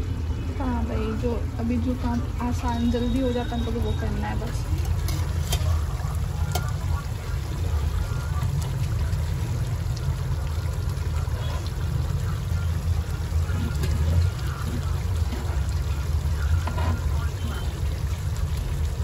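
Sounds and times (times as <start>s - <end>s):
faint frying crackle: 0.2s - 19.0s.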